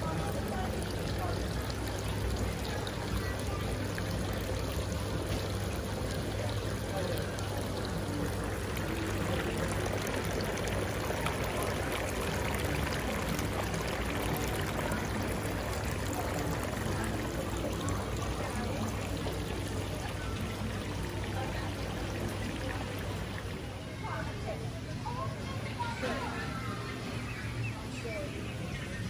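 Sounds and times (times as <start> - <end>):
fountain water pouring: 0.0 - 29.0
low steady hum: 0.0 - 29.0.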